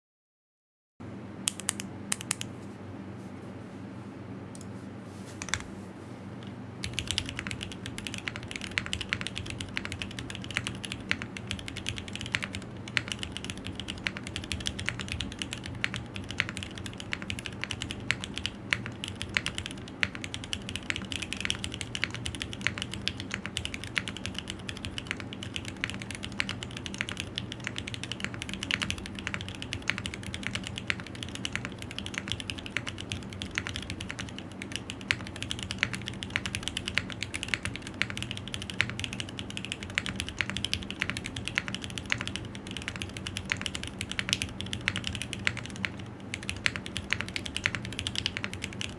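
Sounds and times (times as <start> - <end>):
mechanical keyboard typing: 1.5 - 2.5, 5.4 - 5.7, 6.8 - 48.9.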